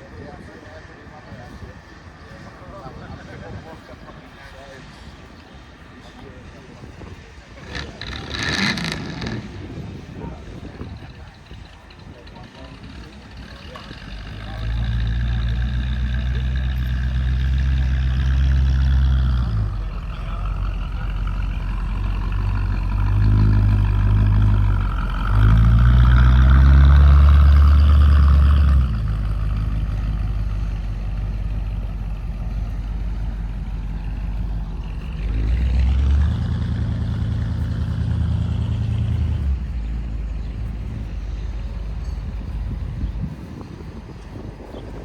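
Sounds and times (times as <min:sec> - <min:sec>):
car and truck engines running: 0:00.0 - 0:45.0.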